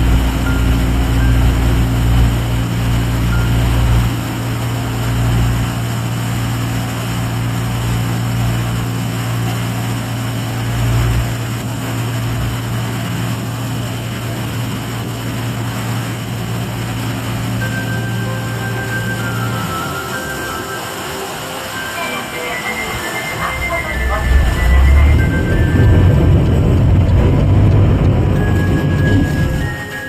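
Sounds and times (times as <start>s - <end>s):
ferry engine droning: 0.0s - 30.0s.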